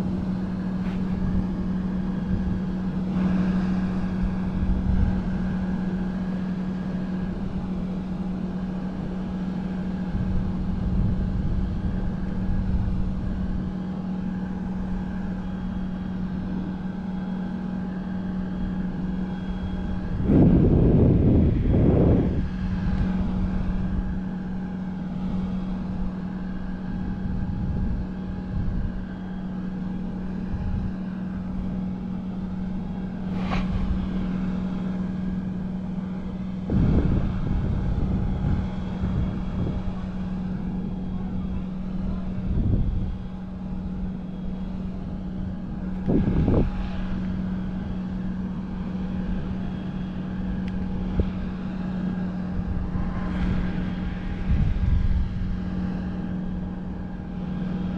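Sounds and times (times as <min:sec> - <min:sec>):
boat engine droning hum: 0:00.0 - 0:57.9
wind buffeting microphone: 0:00.0 - 0:57.9.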